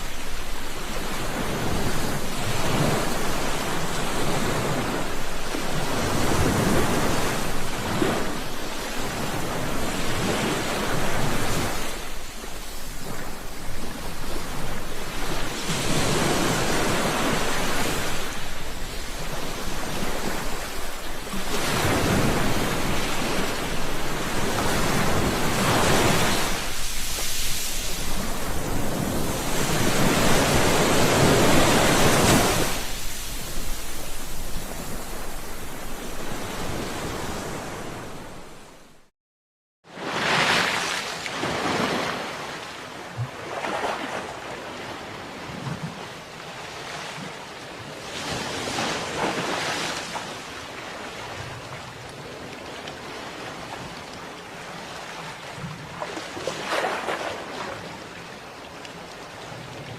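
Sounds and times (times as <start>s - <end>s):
sea waves washing onto shore: 0.0s - 39.0s, 40.0s - 59.9s.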